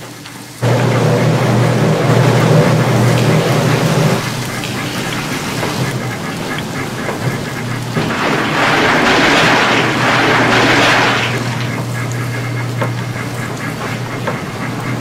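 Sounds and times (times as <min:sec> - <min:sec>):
egg batter sizzling: 0:00.0 - 0:15.0.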